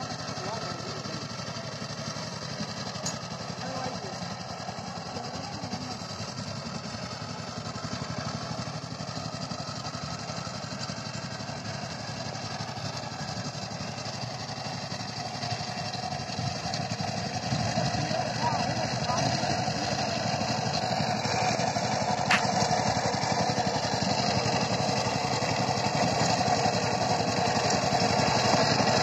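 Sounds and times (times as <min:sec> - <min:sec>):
diesel tiller engine running: 0:00.0 - 0:29.0.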